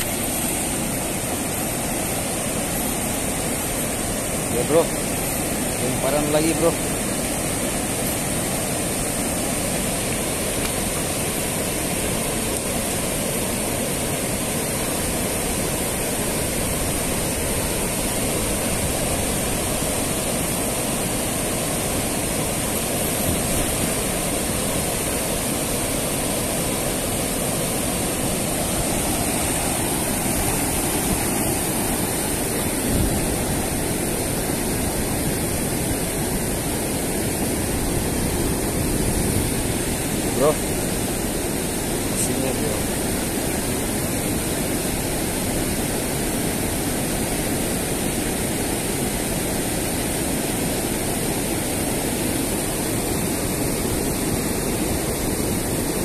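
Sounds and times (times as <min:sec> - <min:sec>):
water rushing over weir: 0:00.0 - 0:56.0.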